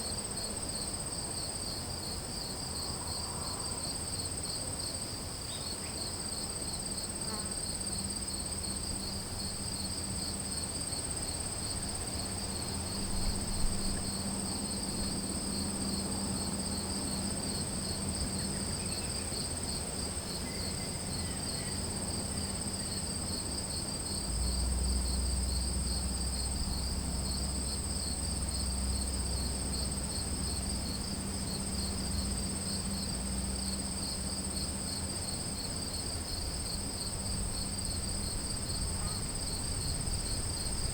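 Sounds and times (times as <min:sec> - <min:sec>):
high-pitched insect trill: 0:05.5 - 0:40.9.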